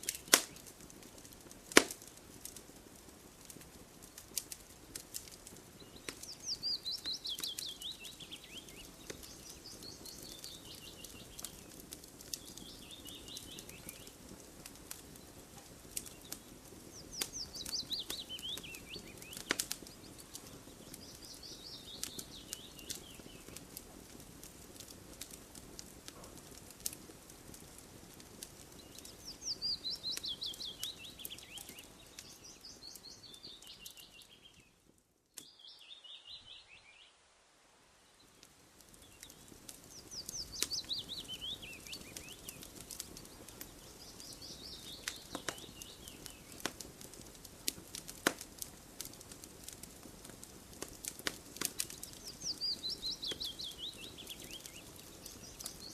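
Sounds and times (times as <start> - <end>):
campfire crackling and popping: 0.0 - 36.7, 37.5 - 55.9
low fire hiss: 0.0 - 55.9.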